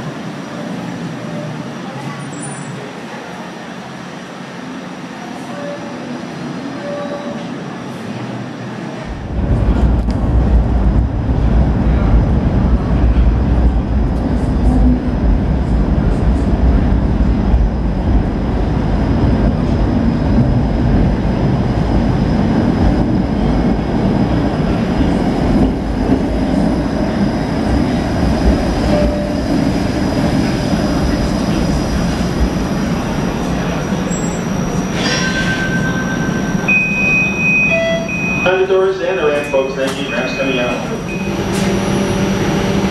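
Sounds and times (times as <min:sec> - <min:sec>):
streetcar wheels rumbling on rail: 0:00.0 - 0:42.9.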